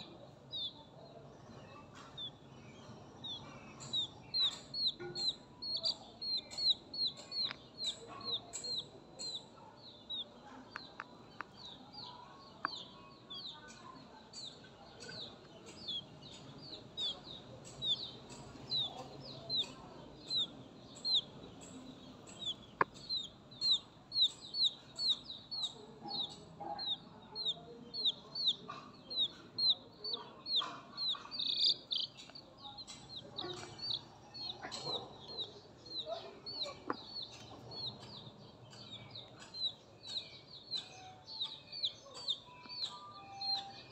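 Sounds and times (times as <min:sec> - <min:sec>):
chick peeping: 0:00.0 - 0:43.9.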